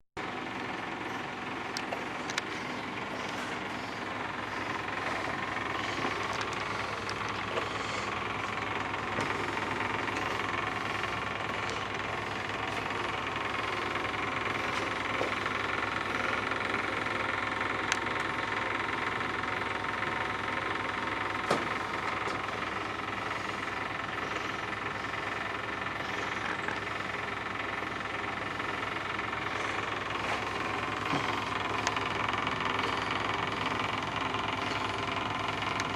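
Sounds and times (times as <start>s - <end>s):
machine droning: 0.2s - 35.9s.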